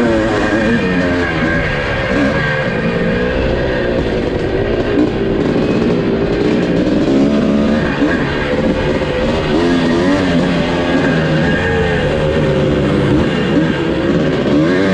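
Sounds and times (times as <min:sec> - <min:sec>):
motocross bike engine revving: 0:00.0 - 0:14.9
rock music: 0:00.0 - 0:14.9.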